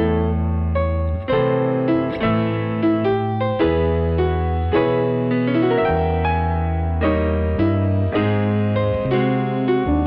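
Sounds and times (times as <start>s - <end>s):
held bass: 0.0s - 10.0s
slow piano chords: 0.0s - 10.0s.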